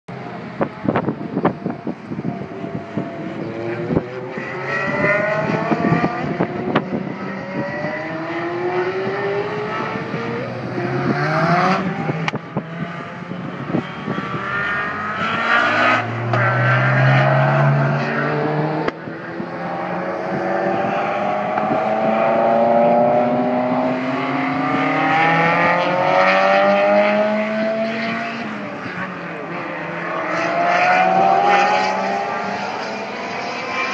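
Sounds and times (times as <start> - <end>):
sports car engines revving: 0.1 - 33.9
wind buffeting microphone: 0.3 - 29.7.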